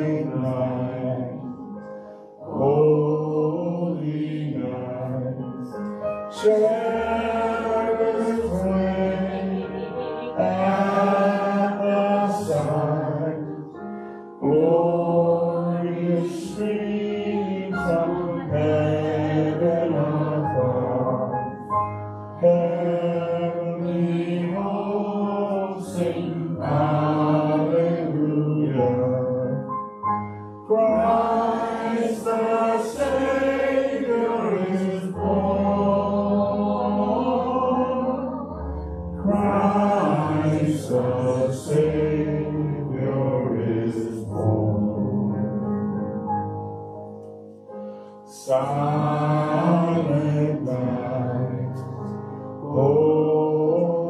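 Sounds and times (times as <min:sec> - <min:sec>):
hymn singing with accompaniment: 0:00.0 - 0:46.0, 0:47.9 - 0:54.0.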